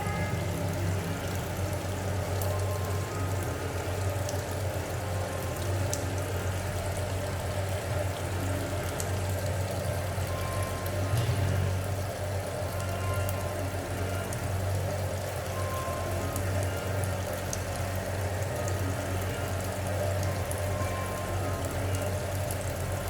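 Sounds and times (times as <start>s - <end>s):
continuous low hum: 0.0s - 23.0s
tap water running into sink: 0.0s - 23.0s.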